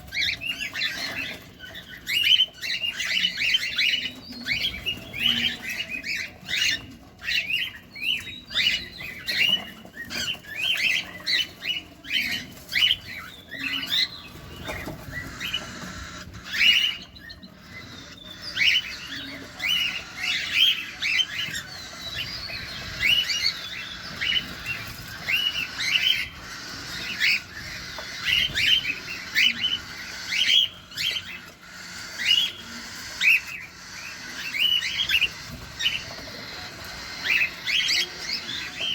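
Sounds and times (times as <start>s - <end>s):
cockatiels chirping: 0.0s - 38.9s.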